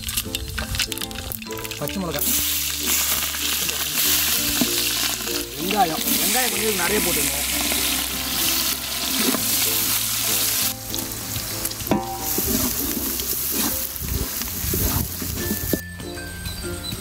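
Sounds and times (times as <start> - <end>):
wooden spatula stirring: 0.0 - 15.8
onions sizzling in hot oil: 0.0 - 16.0.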